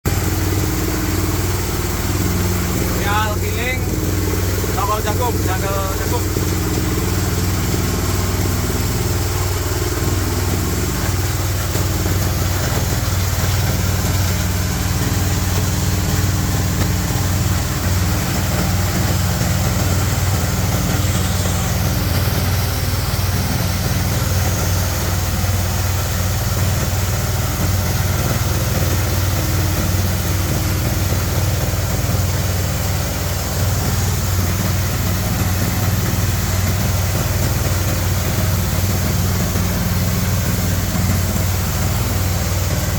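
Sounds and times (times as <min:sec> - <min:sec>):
hammer mill grinding corn cobs: 0:00.1 - 0:42.9.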